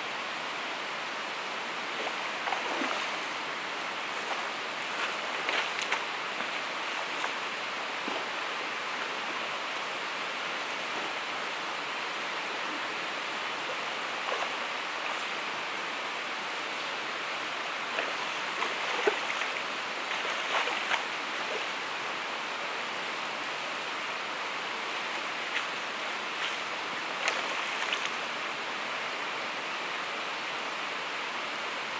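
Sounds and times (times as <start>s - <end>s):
river water running over rocks: 0.0s - 31.9s.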